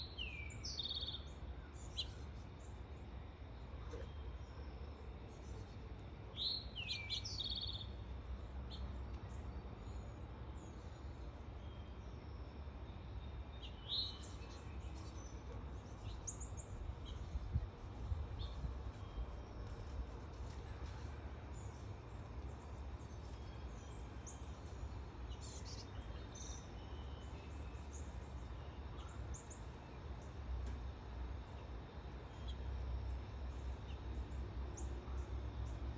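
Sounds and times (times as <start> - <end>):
finches and sparrows chirping: 0.0 - 17.6, 18.3 - 30.5.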